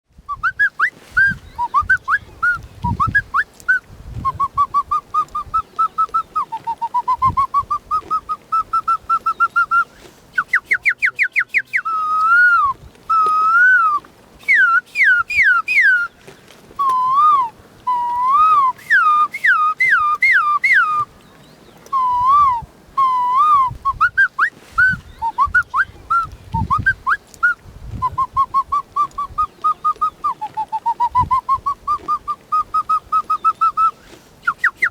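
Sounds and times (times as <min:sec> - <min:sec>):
boy whistling birdsong imitations: 0:00.3 - 0:16.2, 0:16.8 - 0:21.1, 0:21.8 - 0:34.9.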